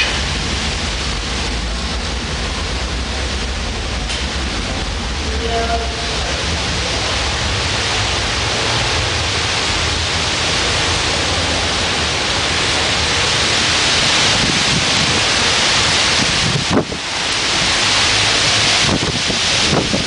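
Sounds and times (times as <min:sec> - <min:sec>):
strong wind rushing: 0:00.0 - 0:20.0.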